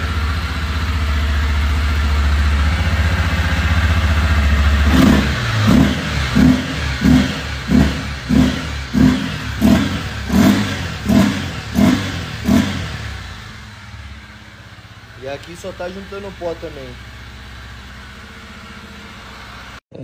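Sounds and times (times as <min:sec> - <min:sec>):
motorcycle engine idling: 0:00.0 - 0:19.8
motorcycle engine revving: 0:00.0 - 0:20.0.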